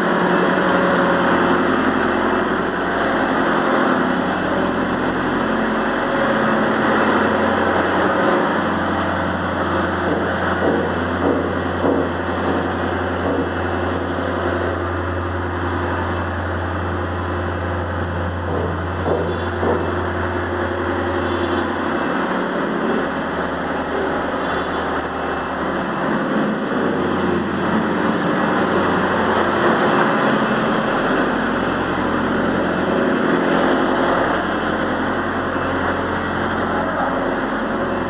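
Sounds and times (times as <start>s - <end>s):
machine humming: 0.0s - 38.0s.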